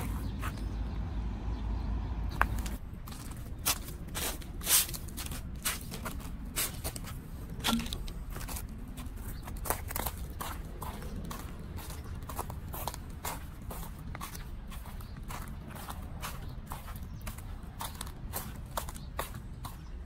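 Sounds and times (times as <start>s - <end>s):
sandal footsteps on concrete: 2.3s - 20.0s.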